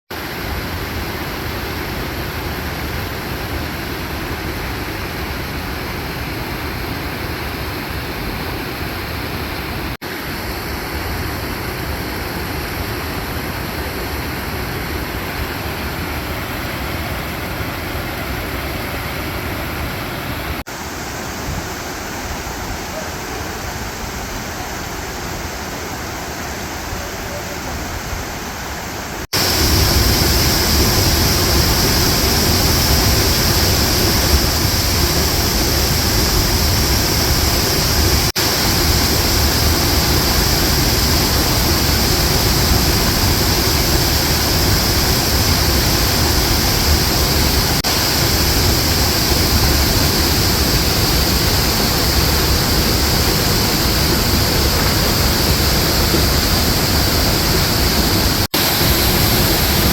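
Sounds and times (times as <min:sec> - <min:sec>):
waterfall rushing: 0:00.1 - 0:59.9.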